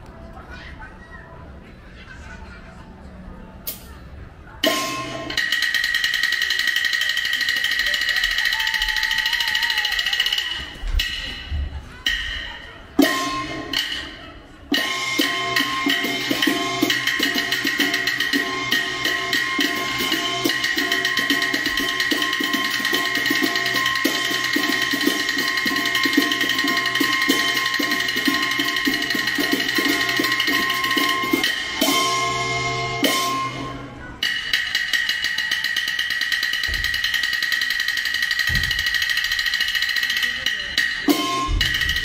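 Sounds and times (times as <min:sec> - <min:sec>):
drums and wood-block percussion: 0:04.6 - 0:42.0.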